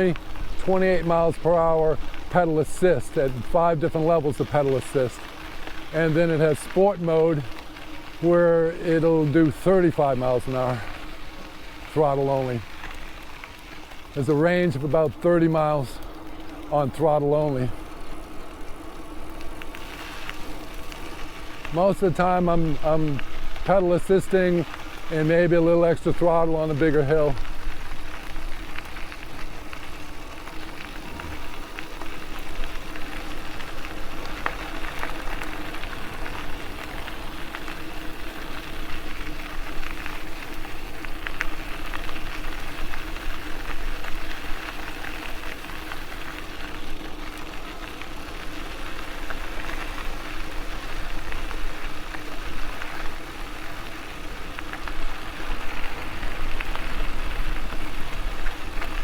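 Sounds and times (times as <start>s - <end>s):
bike clicks and rattles: 0.0s - 59.0s
faint steady hum: 0.0s - 59.0s
tyres rolling on path: 0.0s - 59.0s.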